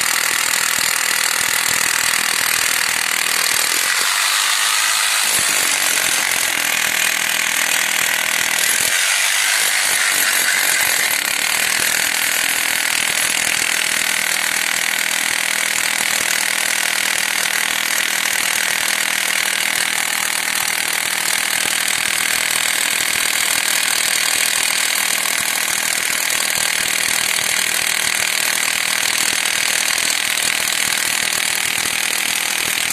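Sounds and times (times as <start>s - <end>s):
power tool on concrete: 0.0s - 32.9s.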